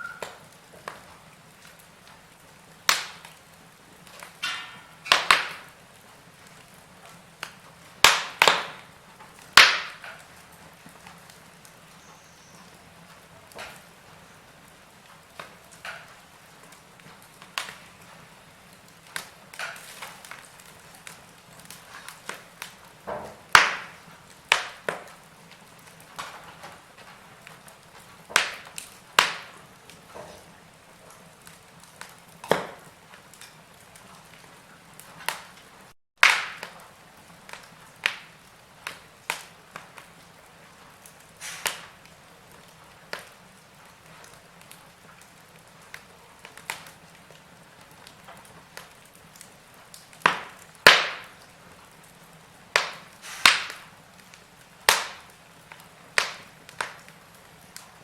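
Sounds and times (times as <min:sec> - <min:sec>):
faint steady hiss: 0:00.0 - 0:58.0
wood fire crackling and popping: 0:00.0 - 0:58.0.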